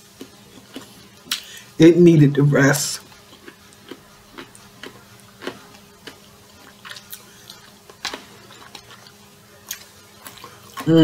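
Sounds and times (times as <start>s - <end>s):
person chewing food: 0.0s - 1.7s, 3.0s - 11.0s.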